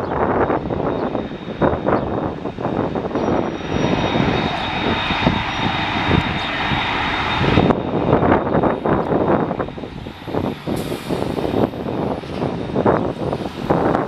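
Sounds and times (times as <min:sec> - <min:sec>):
high engine whine: 0:00.0 - 0:14.0
jet engine rumble: 0:00.0 - 0:14.0.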